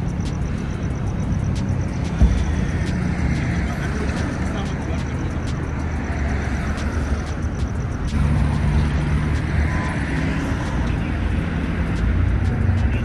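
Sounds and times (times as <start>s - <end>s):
low engine hum: 0.0s - 13.0s
vehicles passing: 0.0s - 13.0s.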